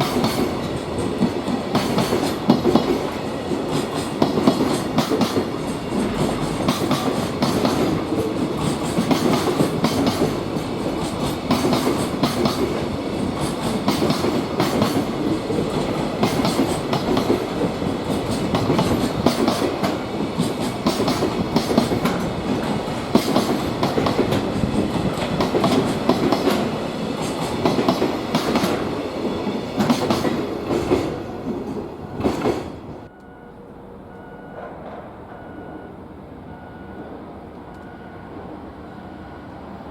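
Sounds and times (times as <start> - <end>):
freight train wheels clicking: 0.0 - 33.2.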